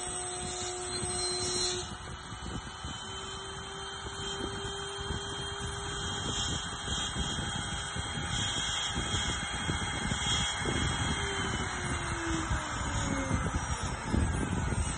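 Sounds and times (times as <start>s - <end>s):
rough wood cutting noise: 0.0s - 14.9s
router spindle whine: 0.0s - 14.9s.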